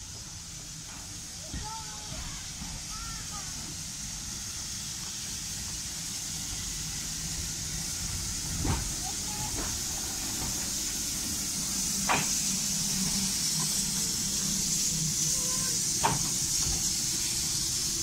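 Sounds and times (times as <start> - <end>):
locomotive low rumble: 0.0 - 18.0
steam locomotive hissing: 0.0 - 18.0.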